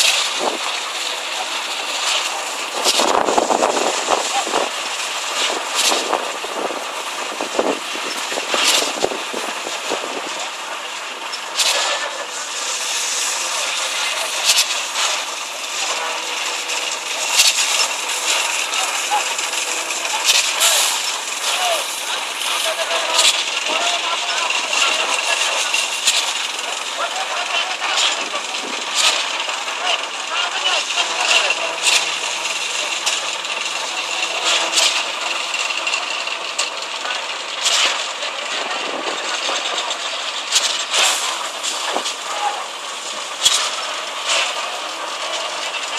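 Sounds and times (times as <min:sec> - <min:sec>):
concrete pump and truck engines: 0:00.0 - 0:45.9
construction machinery running: 0:00.0 - 0:45.9.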